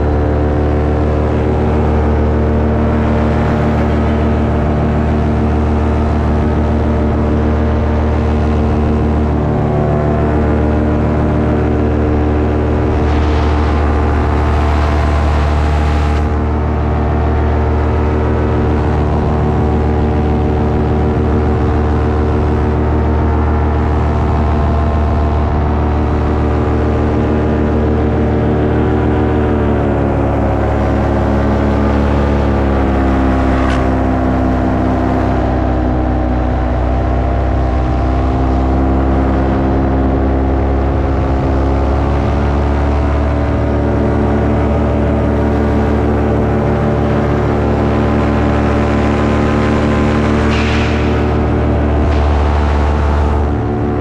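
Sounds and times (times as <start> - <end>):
paramotor engine and propeller: 0.0 - 54.0.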